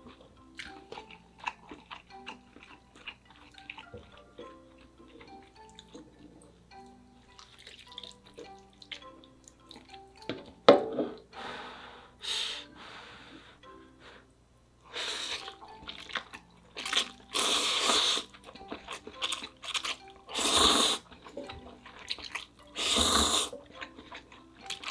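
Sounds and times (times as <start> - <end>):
noodle slurping: 0.0 - 10.2, 14.9 - 24.9
quiet background music: 0.0 - 24.9.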